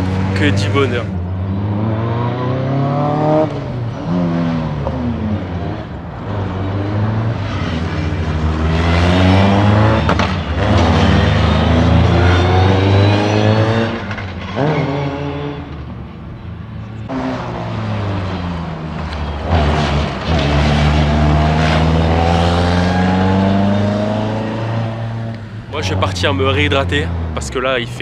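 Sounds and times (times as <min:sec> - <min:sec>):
racing car engine accelerating: 0:00.0 - 0:15.9, 0:17.0 - 0:27.4.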